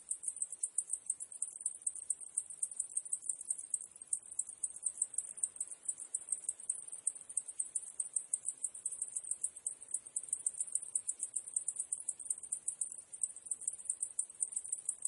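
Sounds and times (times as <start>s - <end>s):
cicadas chorus: 0.2s - 15.0s.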